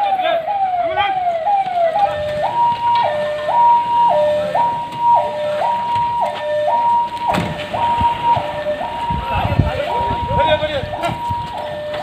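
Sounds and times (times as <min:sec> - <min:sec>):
police siren: 0:00.0 - 0:12.0.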